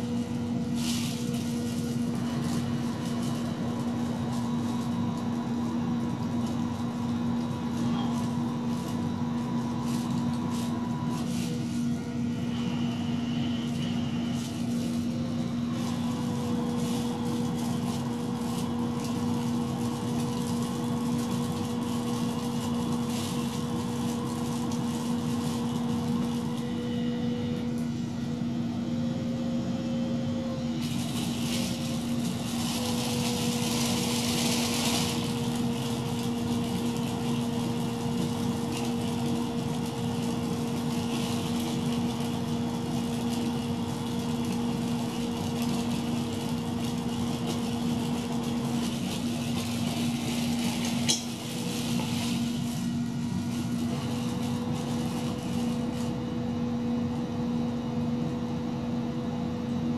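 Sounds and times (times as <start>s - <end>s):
plastic bag rustling: 0.0s - 27.1s, 30.7s - 56.2s
small cooling fan humming and whining: 0.0s - 59.9s.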